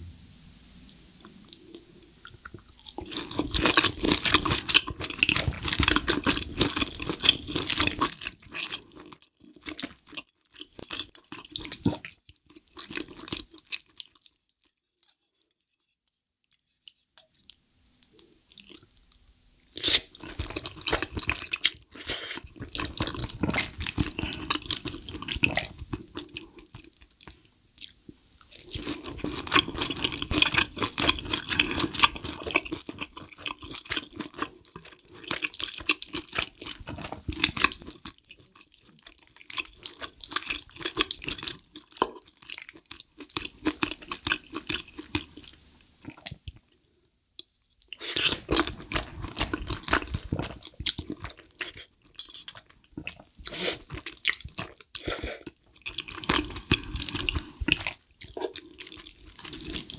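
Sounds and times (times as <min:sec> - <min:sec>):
wet chewing and slurping: 0:01.4 - 0:15.7, 0:16.8 - 0:46.8, 0:47.8 - 0:59.9.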